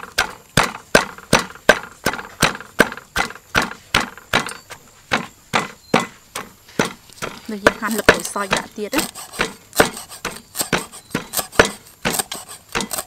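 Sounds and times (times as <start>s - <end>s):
pestle pounding in mortar: 0.0s - 13.0s.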